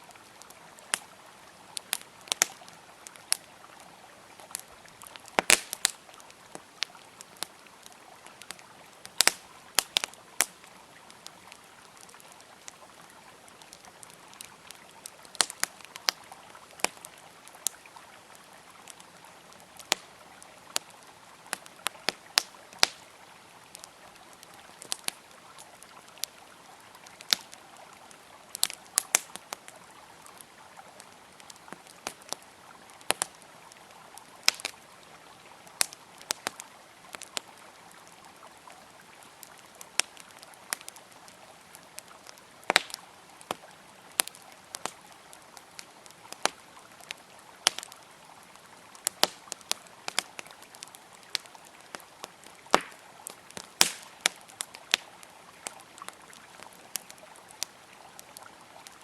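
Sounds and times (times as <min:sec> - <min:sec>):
campfire crackling and popping: 0:00.0 - 0:59.0
river flowing: 0:00.0 - 0:59.0.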